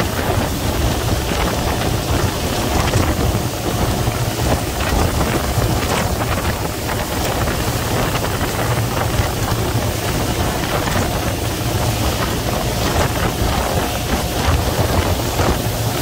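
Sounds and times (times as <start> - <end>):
boat engine drone: 0.0 - 16.0
boat wake rushing: 0.0 - 16.0
wind buffeting microphone: 0.0 - 16.0.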